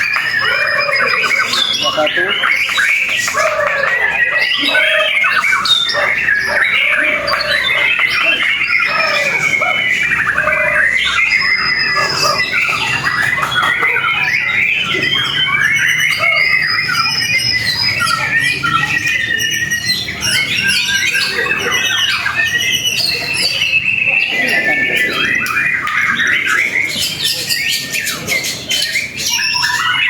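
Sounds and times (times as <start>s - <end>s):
bird singing whistles and trills: 0.0s - 30.0s.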